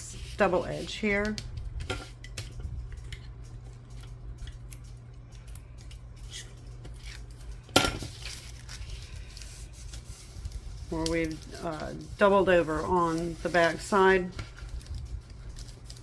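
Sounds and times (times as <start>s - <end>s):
paper rustling: 0.0s - 16.0s
steady low hum: 0.0s - 16.0s.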